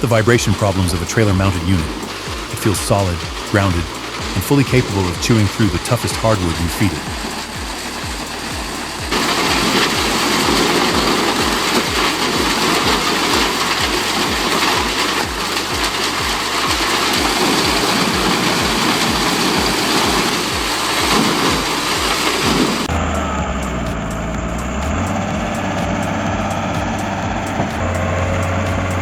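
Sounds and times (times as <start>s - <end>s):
wood chipper chipping wood: 0.0s - 29.0s.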